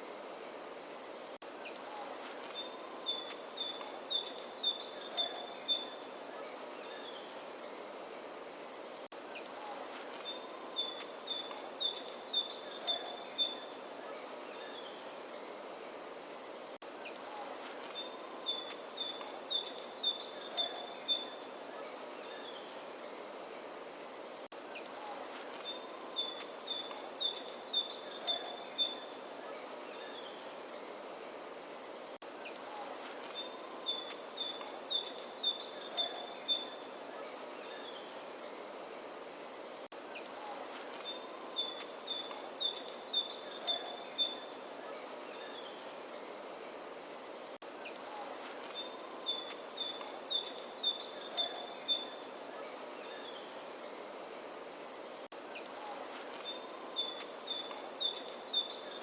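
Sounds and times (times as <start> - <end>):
bird singing: 0.0 - 59.0
faint outdoor background: 0.0 - 59.0.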